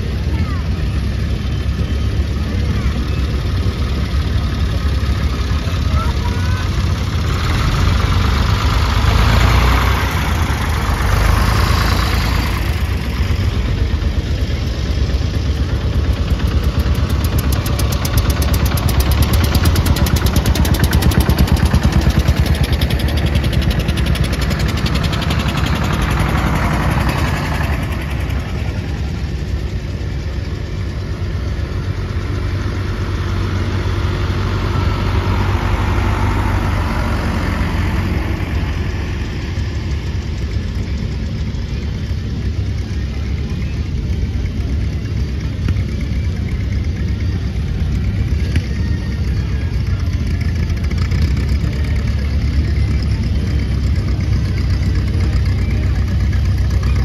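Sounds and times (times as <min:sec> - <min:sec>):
tractor engines driving past: 0:00.0 - 0:57.0.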